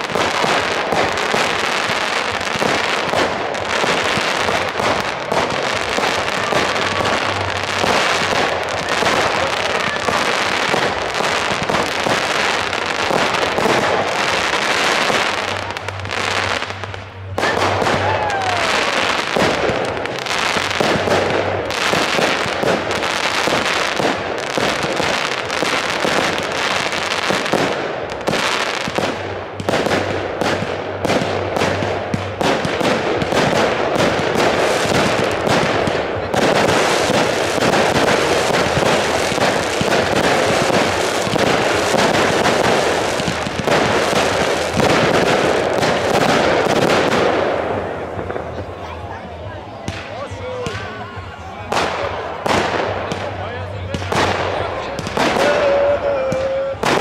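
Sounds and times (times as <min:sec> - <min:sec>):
fireworks banging and crackling: 0:00.0 - 0:57.0.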